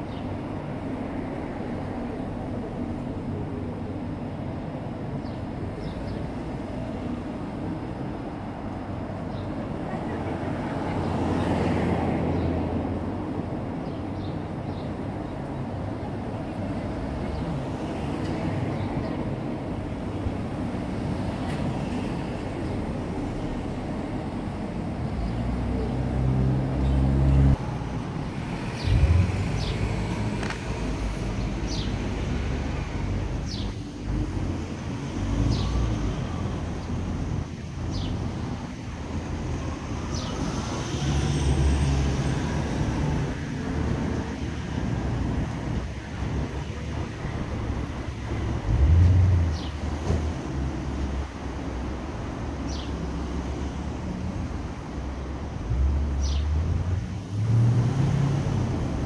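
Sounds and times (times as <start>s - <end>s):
cars driving rumble: 0.0s - 59.0s.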